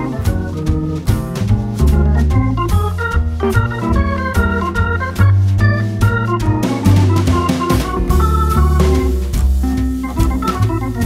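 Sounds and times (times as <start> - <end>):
drum hits: 0.0 - 11.0
organ-like chords: 0.0 - 11.0.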